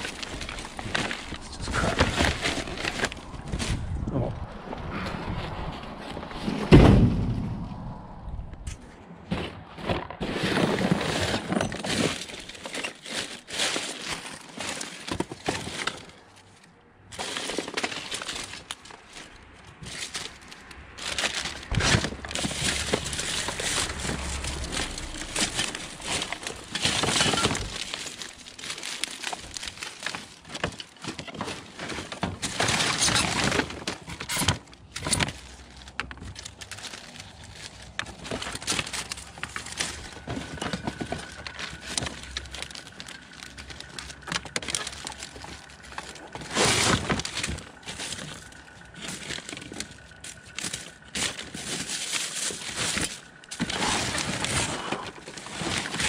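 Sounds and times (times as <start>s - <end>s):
debris clattering and crinkling: 0.0s - 56.0s.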